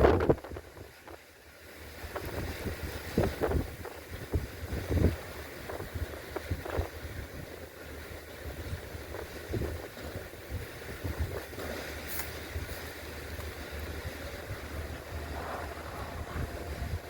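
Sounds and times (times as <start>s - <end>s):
wind buffeting microphone: 0.0s - 1.2s, 1.9s - 17.0s.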